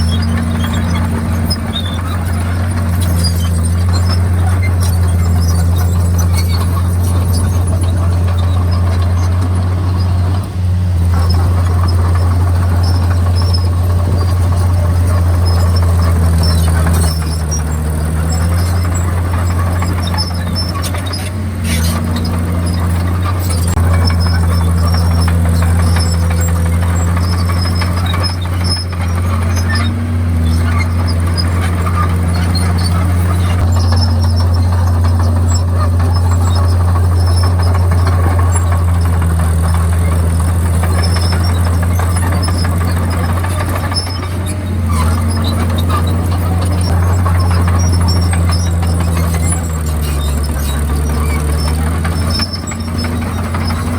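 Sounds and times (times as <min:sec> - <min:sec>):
bulldozer diesel engine running: 0:00.0 - 0:53.9
high squeaks: 0:00.0 - 0:53.9.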